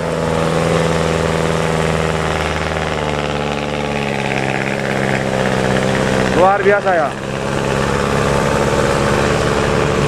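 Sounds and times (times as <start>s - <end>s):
bus diesel engine under load: 0.0s - 10.0s.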